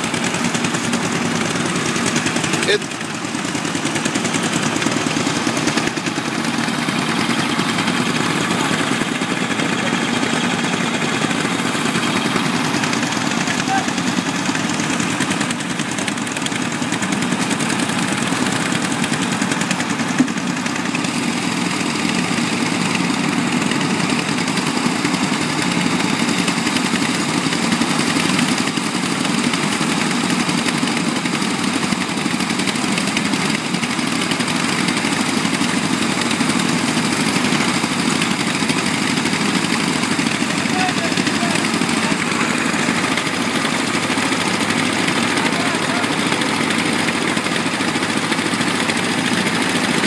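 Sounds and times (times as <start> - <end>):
concrete mixer engines running: 0.0 - 50.0.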